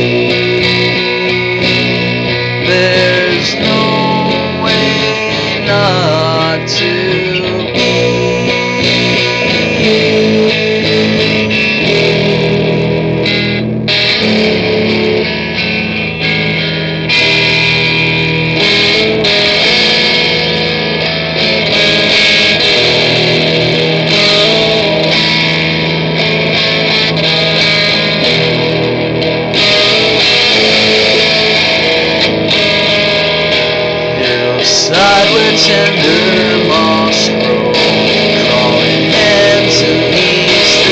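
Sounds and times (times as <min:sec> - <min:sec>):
guitar music with steady beat: 0:00.0 - 0:40.9.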